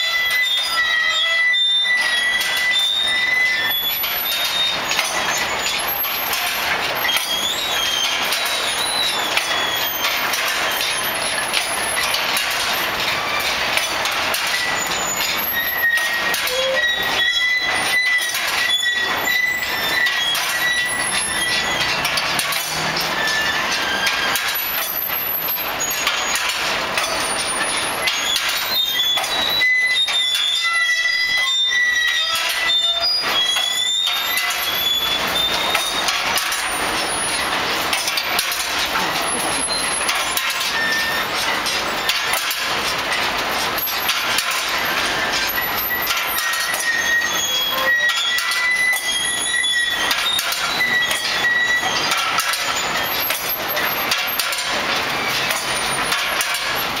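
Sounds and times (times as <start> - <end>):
metal parts rattling and clanking: 0.0 - 57.0
squealing wheels and joints: 0.0 - 57.0.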